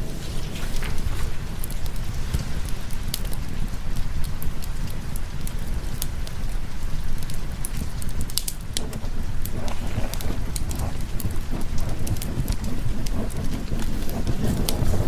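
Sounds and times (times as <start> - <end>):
continuous low rumble: 0.0 - 15.0
steady rain: 0.0 - 15.0
wood fire crackling: 0.0 - 15.0.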